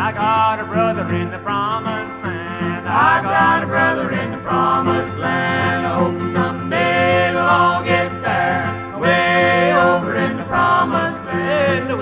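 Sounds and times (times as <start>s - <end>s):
instrumental melody with bending notes: 0.0s - 12.0s.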